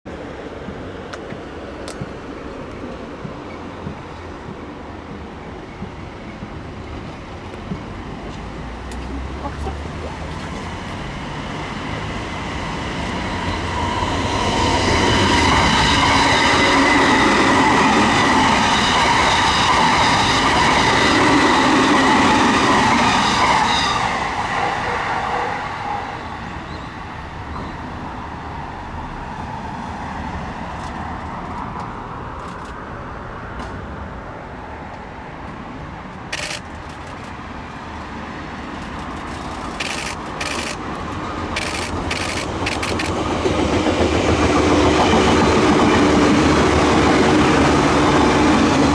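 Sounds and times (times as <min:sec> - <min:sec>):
train approaching rumble: 0:00.1 - 0:32.4, 0:33.1 - 0:48.9
train whine: 0:00.1 - 0:32.7, 0:34.6 - 0:48.9
electric train passing: 0:00.1 - 0:48.9.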